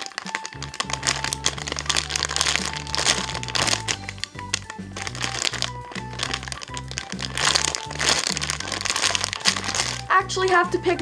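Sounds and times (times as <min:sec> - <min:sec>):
foam toy crinkling when squeezed: 0:00.0 - 0:11.0
background music with bass line: 0:00.5 - 0:11.0.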